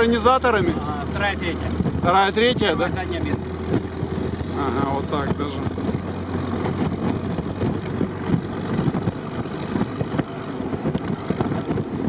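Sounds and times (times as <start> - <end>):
car engine running: 0.0 - 12.0
wind and road noise: 0.0 - 12.0.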